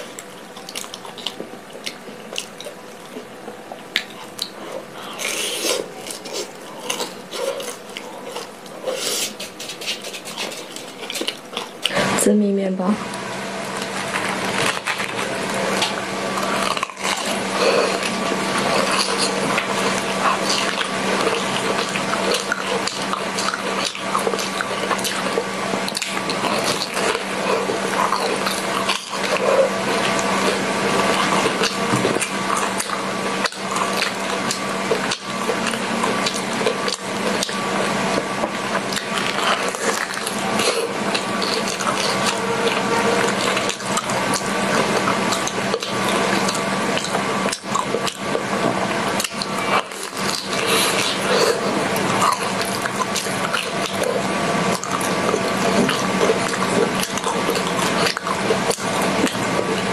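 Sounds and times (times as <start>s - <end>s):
wet chewing and smacking: 0.0s - 12.2s, 13.1s - 59.9s
steady low hum: 0.0s - 59.9s.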